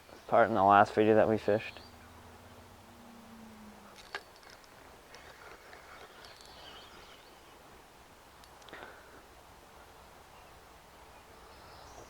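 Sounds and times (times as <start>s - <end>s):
low steady buzz: 0.0s - 12.0s.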